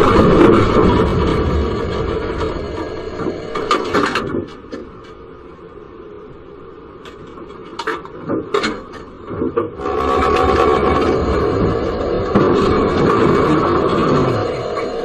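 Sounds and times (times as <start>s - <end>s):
tram running noise: 0.0s - 15.0s.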